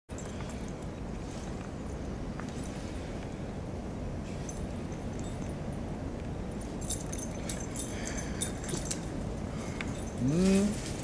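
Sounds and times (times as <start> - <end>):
light metallic jingling: 0.1 - 3.2, 4.2 - 11.0
outdoor background noise: 0.1 - 11.0.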